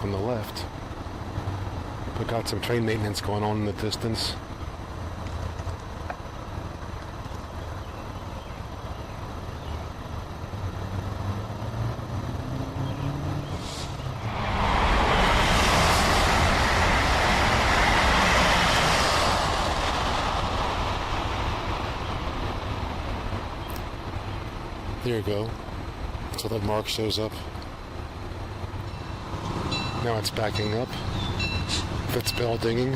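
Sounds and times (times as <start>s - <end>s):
train engine drone: 0.0s - 32.9s
train rushing noise: 0.0s - 32.9s.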